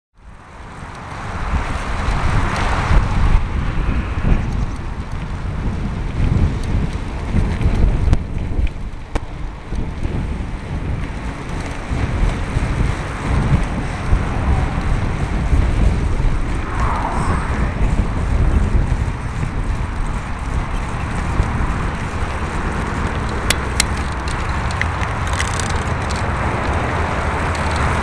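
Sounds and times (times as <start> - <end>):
bicycle tyre noise: 0.2 - 28.0
wind rumbling on microphone: 0.2 - 28.0.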